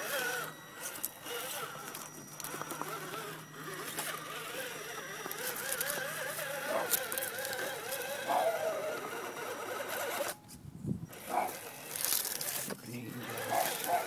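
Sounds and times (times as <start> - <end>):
rc car motor whining: 0.0 - 14.0.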